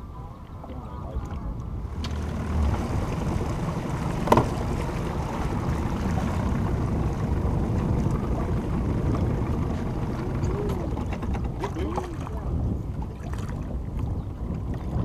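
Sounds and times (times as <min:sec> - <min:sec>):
water washing around boat: 0:00.0 - 0:15.0
wind rumbling on microphone: 0:00.0 - 0:15.0.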